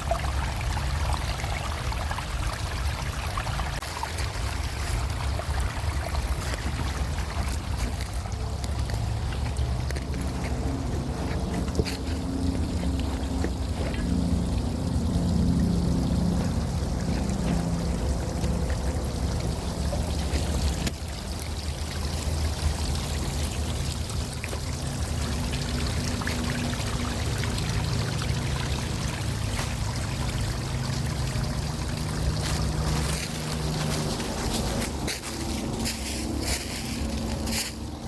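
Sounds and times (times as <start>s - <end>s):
running water: 0.0s - 38.0s
low hum: 7.2s - 38.0s.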